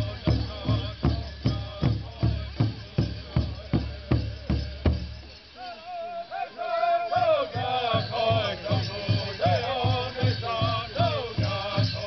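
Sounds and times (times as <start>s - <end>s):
group singing: 0.0s - 4.9s, 5.6s - 12.0s.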